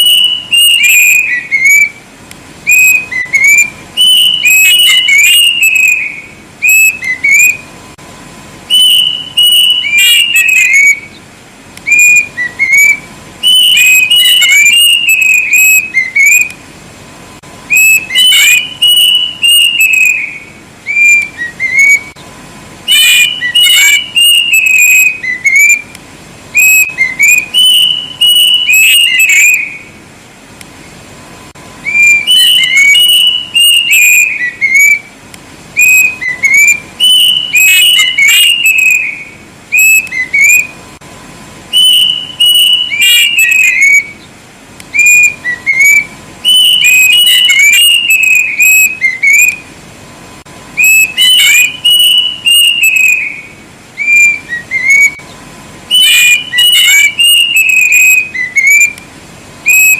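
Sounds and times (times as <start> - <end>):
cuckoo whistling: 0.0 - 2.0, 2.6 - 7.7, 8.7 - 11.2, 11.8 - 16.6, 17.6 - 22.2, 22.8 - 30.0, 31.8 - 35.2, 35.8 - 40.8, 41.7 - 44.3, 44.9 - 49.7, 50.8 - 59.0, 59.6 - 59.9.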